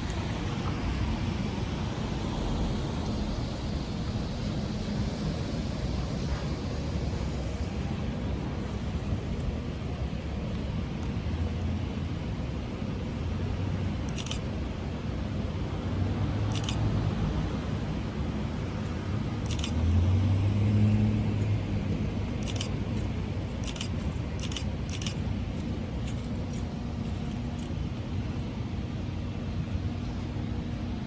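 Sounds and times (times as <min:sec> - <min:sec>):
engine hum: 0:00.0 - 0:31.0
road traffic rumble: 0:00.0 - 0:31.0.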